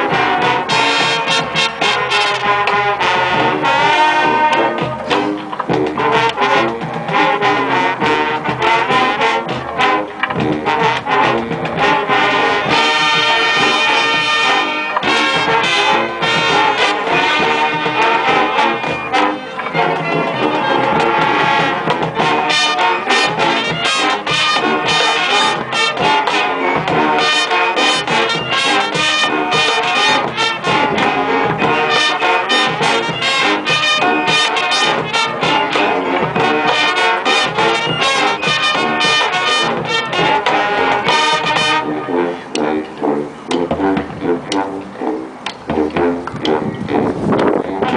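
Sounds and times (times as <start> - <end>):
marching brass band: 0.0 - 47.9
percussion hits: 0.0 - 47.9.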